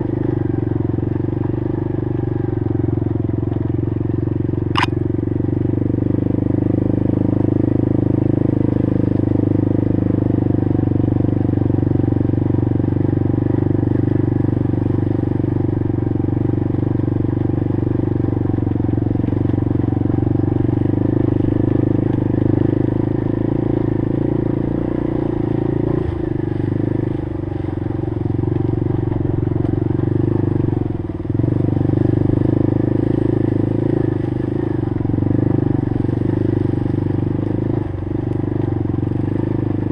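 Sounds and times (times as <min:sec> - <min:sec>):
small engine running under throttle: 0:00.0 - 0:39.9.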